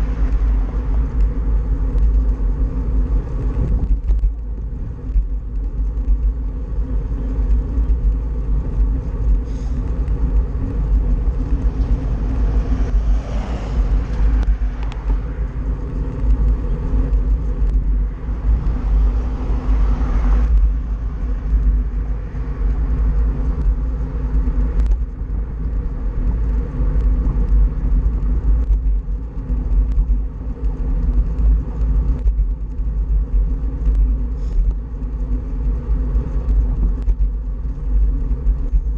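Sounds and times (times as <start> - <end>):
bicycle tyres on asphalt: 0.0 - 38.9
wind rumbling on microphone: 0.0 - 38.9.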